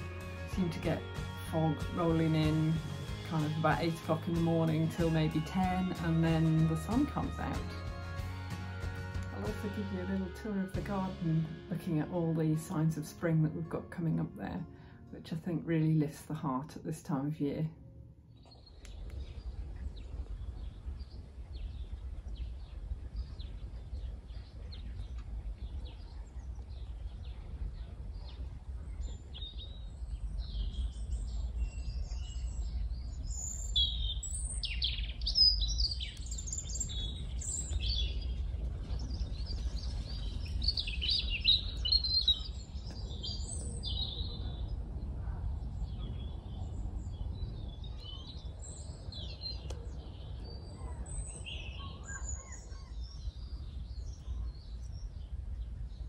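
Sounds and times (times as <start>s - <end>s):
garden birds singing and chirping: 0.0s - 14.6s, 18.4s - 56.0s
steady low rumble: 9.1s - 52.1s, 52.8s - 56.0s.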